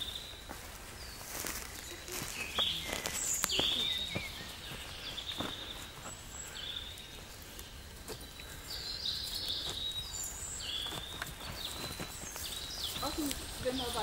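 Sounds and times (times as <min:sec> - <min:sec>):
footsteps on dirt path: 0:00.0 - 0:14.0
songbirds singing: 0:00.0 - 0:14.0.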